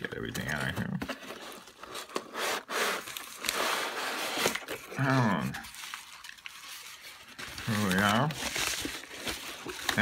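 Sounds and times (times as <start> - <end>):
paper and cardboard rustling: 0.0 - 10.0.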